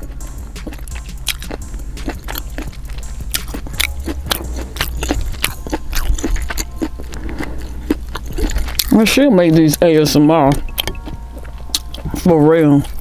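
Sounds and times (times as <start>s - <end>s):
wet chewing and mouth smacking: 0.0s - 13.0s.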